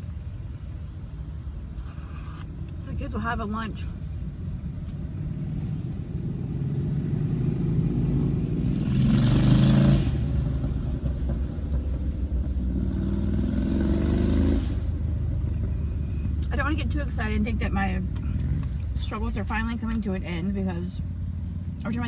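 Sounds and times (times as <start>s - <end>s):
low motor vehicle rumble: 0.0s - 22.0s
vehicles passing close by: 0.0s - 22.0s.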